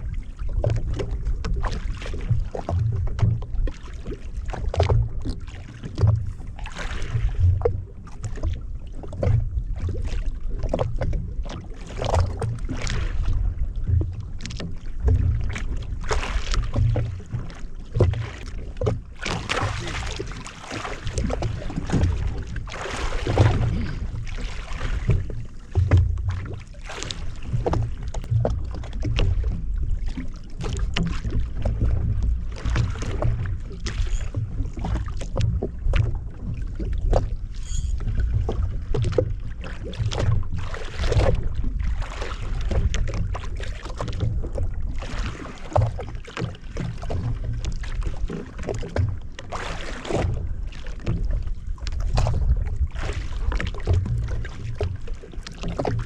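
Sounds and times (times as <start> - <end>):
jet ski engine rumble: 0.0 - 56.0
water slapping against hull: 0.0 - 56.0.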